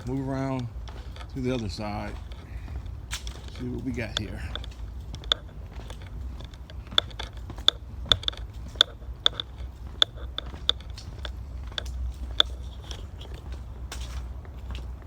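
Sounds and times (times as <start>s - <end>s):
footsteps crunching on a path: 0.0s - 15.0s.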